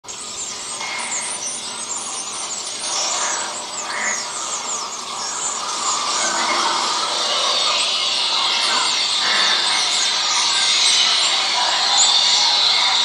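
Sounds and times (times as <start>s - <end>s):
flock of birds shrieking: 0.1s - 13.0s.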